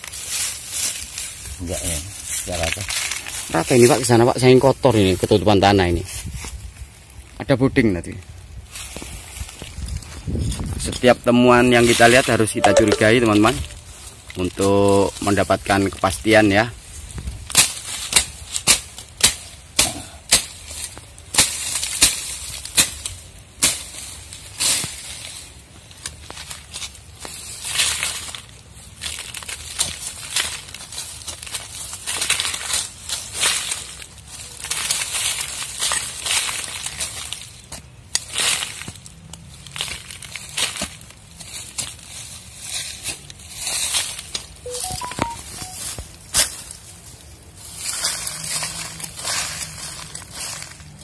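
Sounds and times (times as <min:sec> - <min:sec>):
dry leaves crunching and rustling: 0:00.0 - 0:07.4, 0:08.0 - 0:51.0.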